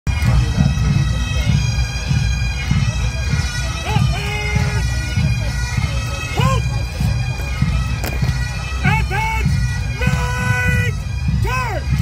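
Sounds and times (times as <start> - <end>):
bagpipes playing a march: 0.1 - 12.0
drums beating: 0.1 - 12.0.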